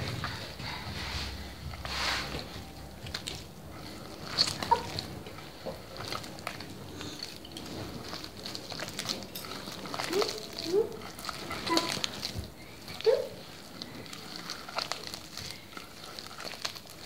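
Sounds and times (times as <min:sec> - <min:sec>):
hand squishing soft mixture: 0:00.0 - 0:17.0.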